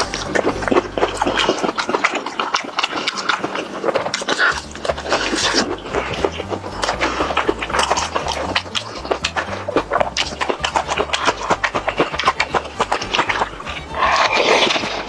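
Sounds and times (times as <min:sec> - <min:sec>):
background music: 0:00.0 - 0:15.0
chewing crispy fried chicken: 0:00.0 - 0:15.0.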